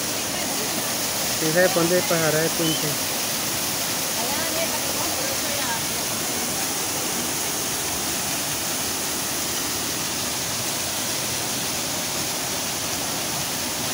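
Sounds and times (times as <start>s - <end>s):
creek rushing over rocks: 0.0s - 13.9s.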